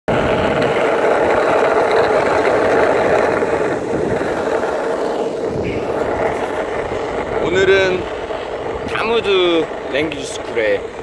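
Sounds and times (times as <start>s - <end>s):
longboard wheels rolling on asphalt: 0.1s - 11.0s.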